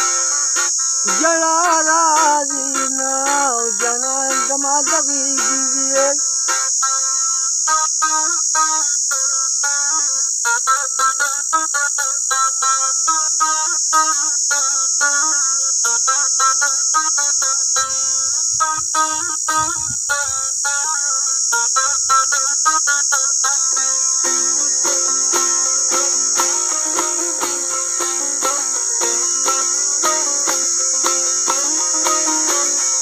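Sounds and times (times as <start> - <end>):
insect shrill: 0.0 - 33.0.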